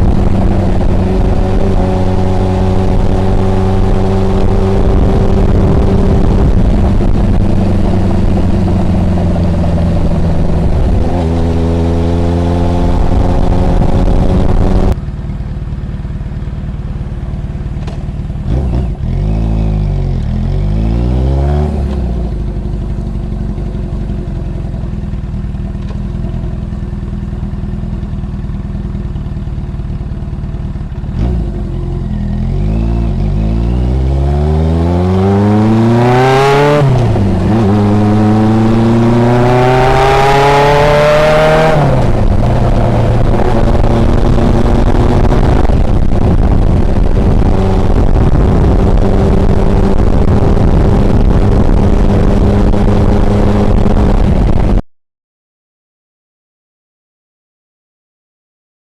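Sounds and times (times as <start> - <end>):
motorcycle engine revving while riding: 0.0 - 54.8.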